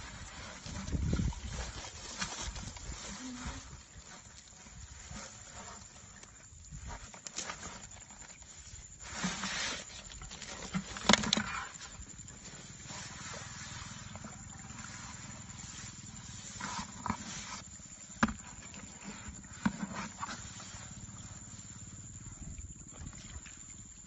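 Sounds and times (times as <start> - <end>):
rustling and scraping of fish trap: 0.0 - 21.4.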